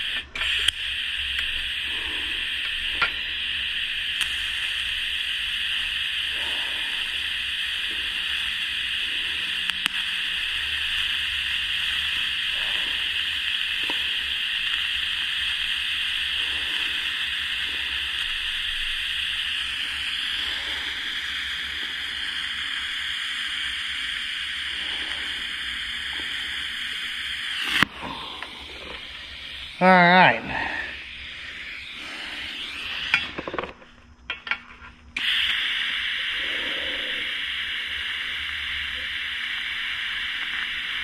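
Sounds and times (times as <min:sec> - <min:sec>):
welding arc hissing: 0:00.0 - 0:41.0.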